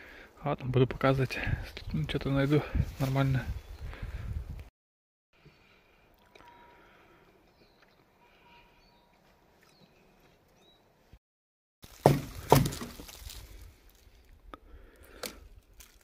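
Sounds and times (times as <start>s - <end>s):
faint outdoor background: 0.0s - 4.7s, 5.3s - 11.2s, 11.8s - 16.0s.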